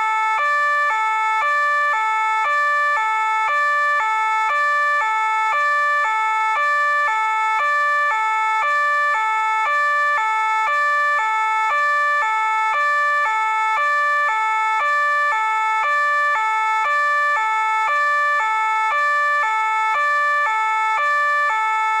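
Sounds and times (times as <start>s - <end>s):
two-tone police siren: 0.0s - 22.0s.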